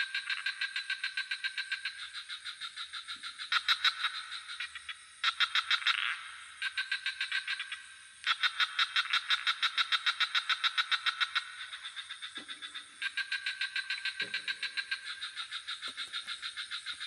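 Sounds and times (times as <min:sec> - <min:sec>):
low frog croaks: 0:00.0 - 0:17.0
rapid pulsing frog and cricket calls: 0:00.0 - 0:17.0.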